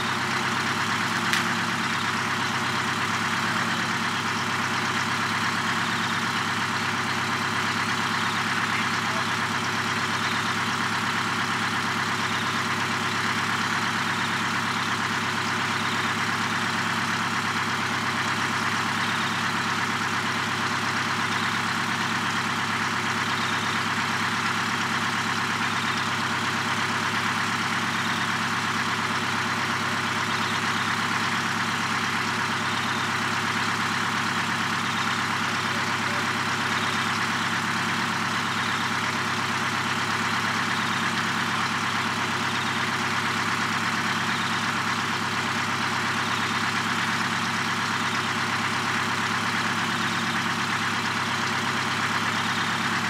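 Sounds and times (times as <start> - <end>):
diesel truck engine idling: 0.0 - 53.0.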